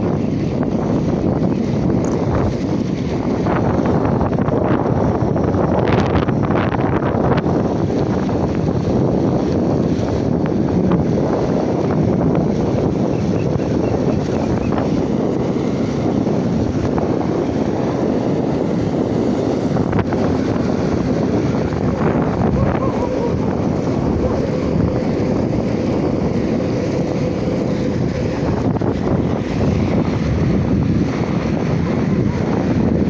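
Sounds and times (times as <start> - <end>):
bicycle riding sounds: 0.0 - 33.0
wind buffeting the microphone: 0.0 - 33.0.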